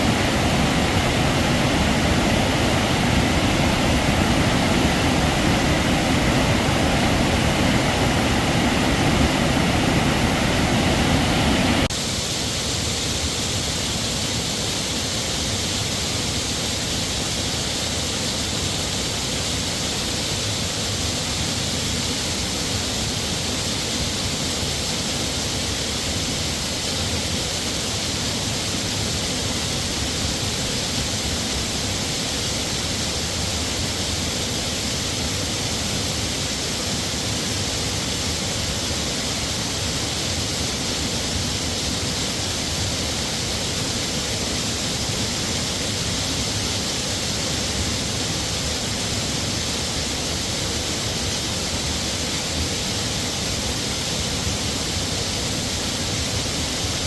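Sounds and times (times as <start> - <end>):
heavy waterfall pouring: 0.0 - 57.0.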